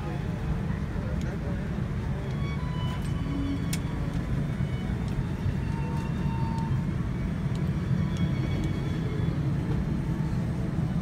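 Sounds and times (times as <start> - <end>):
airliner cabin low rumble: 0.0 - 11.0.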